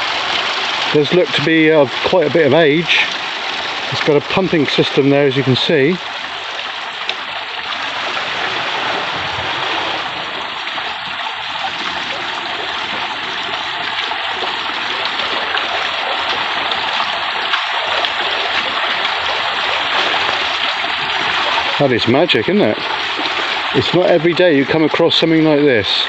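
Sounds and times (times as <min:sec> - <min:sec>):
water splashing off water wheel: 0:00.0 - 0:26.0.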